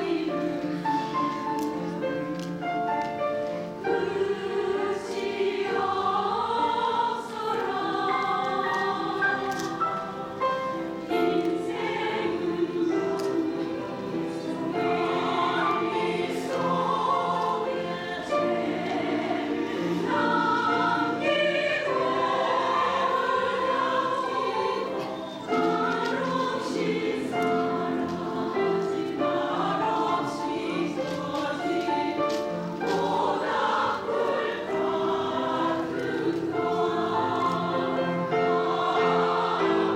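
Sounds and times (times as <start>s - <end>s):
musical accompaniment: 0.0s - 39.9s
women's choir singing: 0.0s - 39.9s.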